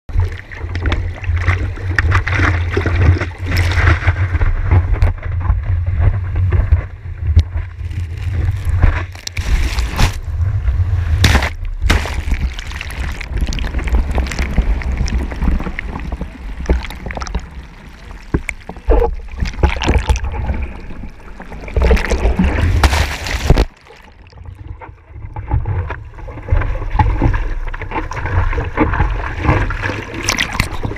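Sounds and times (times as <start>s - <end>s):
low rumble of water: 0.1s - 30.9s
water splashing and sloshing: 0.1s - 30.9s.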